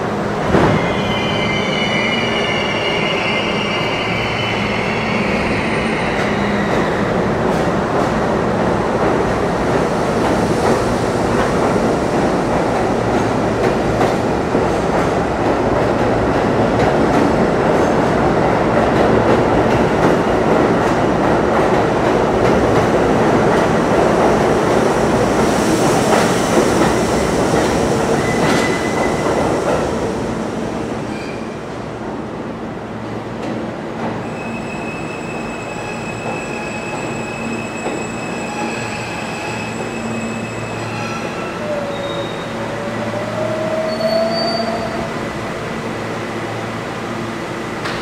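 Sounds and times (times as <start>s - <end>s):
subway train rumble: 0.0s - 48.0s.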